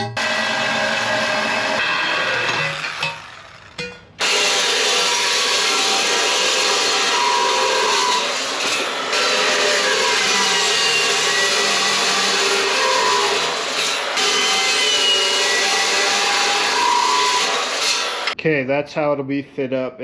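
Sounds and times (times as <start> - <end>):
power saw cutting steel pipe: 0.0 - 18.4.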